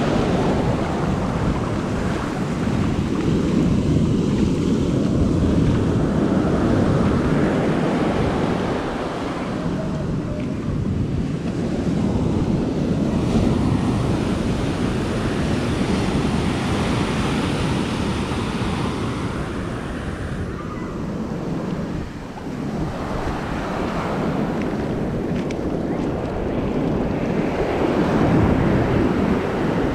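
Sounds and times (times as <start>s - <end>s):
ocean surf breaking: 0.0s - 29.9s
wind buffeting microphone: 0.0s - 29.9s.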